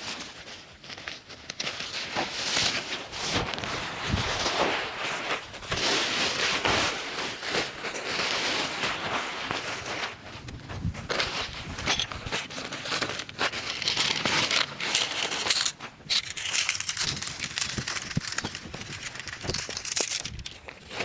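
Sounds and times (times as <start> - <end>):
plastic sheeting crinkling: 0.0 - 21.0.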